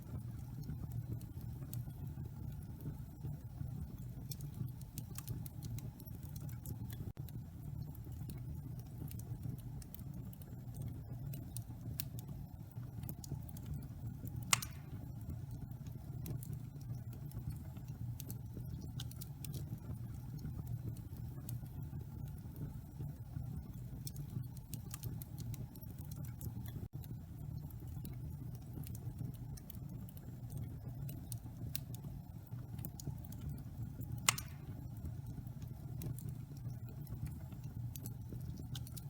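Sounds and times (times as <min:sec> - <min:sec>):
fire crackles and pops: 0:00.0 - 0:39.0
wood fire burning: 0:00.0 - 0:39.0.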